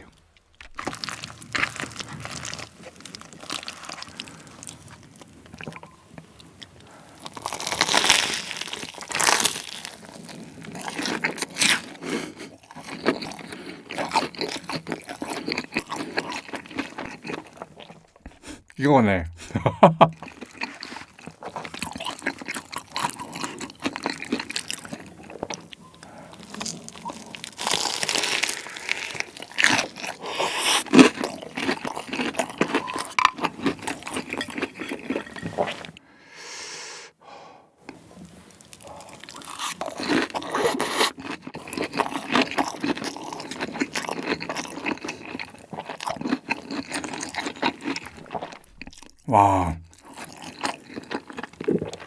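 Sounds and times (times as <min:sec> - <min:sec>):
crunchy chewing: 0:00.1 - 0:18.6, 0:20.2 - 0:36.0, 0:37.9 - 0:52.0.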